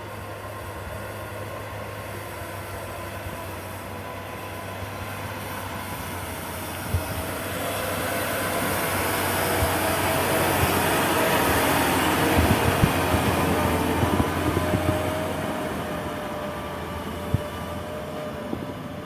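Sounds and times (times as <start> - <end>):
truck engine under load: 0.0 - 19.0.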